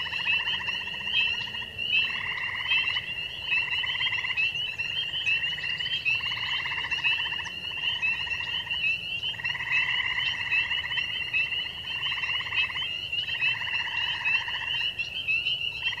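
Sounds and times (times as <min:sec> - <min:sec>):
pulsed rasping frog trills: 0:00.0 - 0:16.0.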